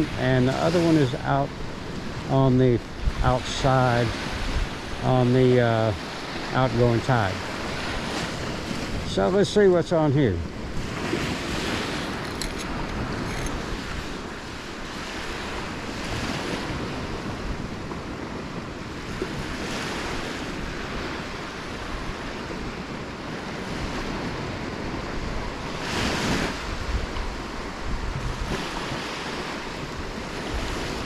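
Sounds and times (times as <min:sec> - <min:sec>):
wind buffeting microphone: 0:00.0 - 0:09.3, 0:10.0 - 0:31.0
waves breaking on sand: 0:00.0 - 0:31.0.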